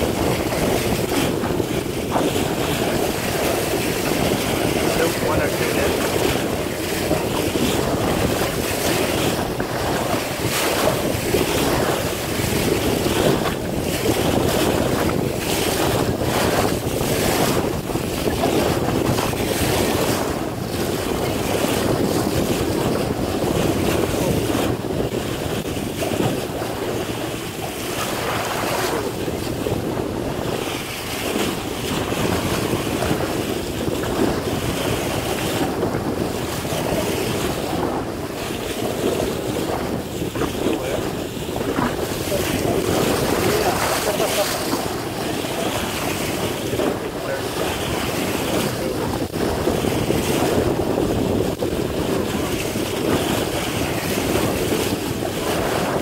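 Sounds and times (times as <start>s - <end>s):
water rushing along boat hull: 0.0s - 56.0s
wind buffeting microphone: 0.0s - 56.0s.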